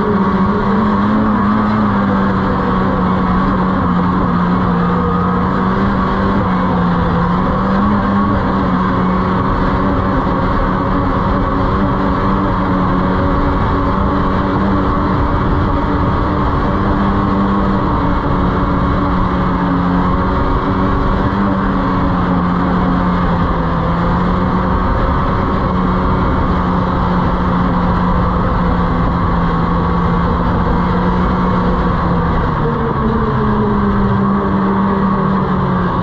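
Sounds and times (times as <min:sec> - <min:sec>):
snowmobile engine running: 0:00.0 - 0:36.0.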